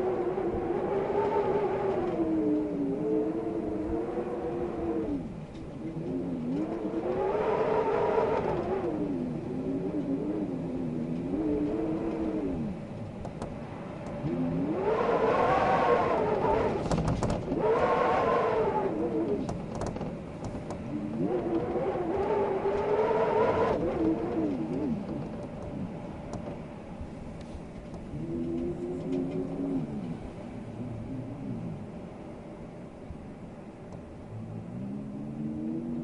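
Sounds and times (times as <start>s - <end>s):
wind howling in gusts: 0.0s - 36.0s.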